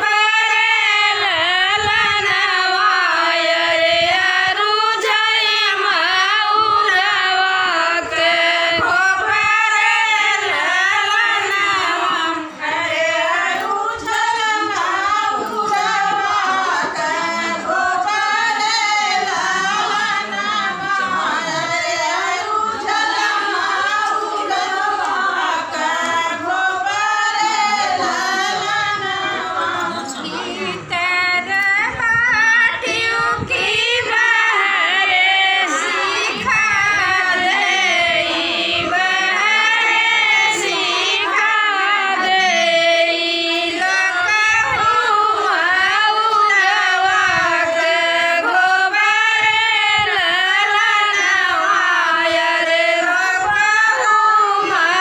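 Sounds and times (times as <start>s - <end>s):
women singing together: 0.0s - 55.0s.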